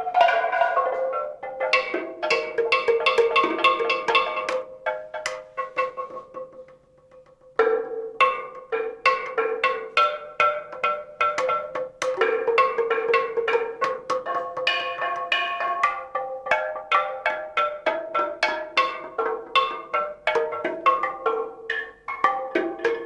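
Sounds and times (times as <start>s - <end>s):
pitched percussion notes: 0.0s - 23.0s.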